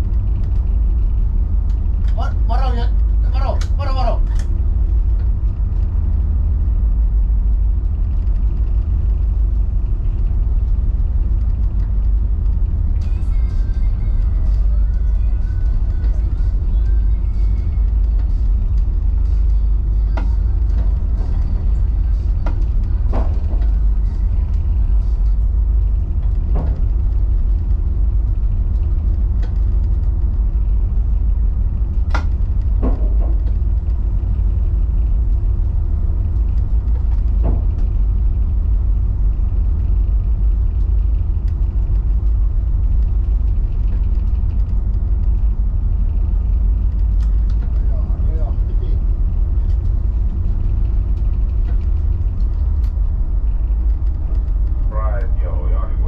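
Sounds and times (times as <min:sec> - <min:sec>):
tug engine drone: 0:00.0 - 0:56.0.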